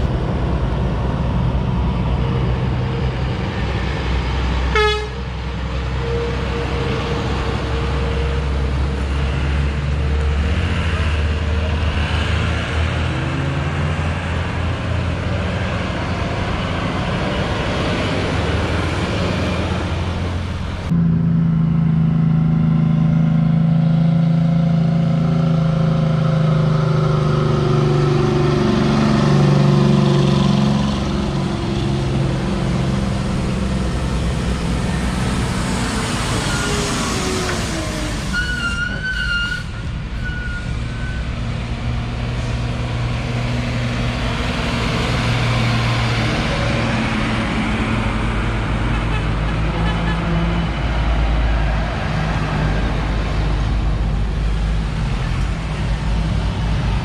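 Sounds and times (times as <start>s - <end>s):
diesel engines of trucks and bus: 0.0s - 57.0s.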